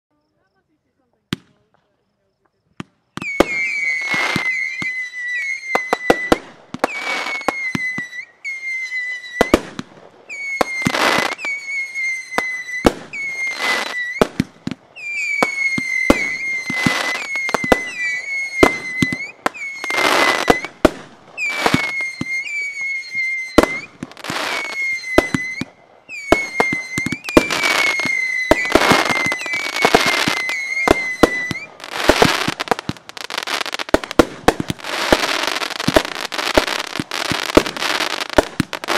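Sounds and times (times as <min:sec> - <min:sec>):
fireworks crackling hiss: 0:00.2 - 0:38.9
high firework whistles: 0:00.3 - 0:38.9
fireworks bursting with bangs: 0:00.6 - 0:38.9.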